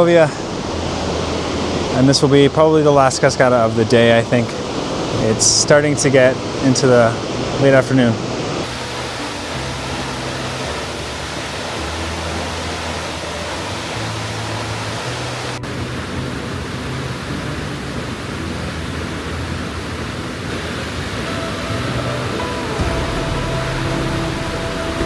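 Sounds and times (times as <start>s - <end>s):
soft music with low held notes: 0.0s - 25.0s
waterfall roaring: 0.0s - 25.0s.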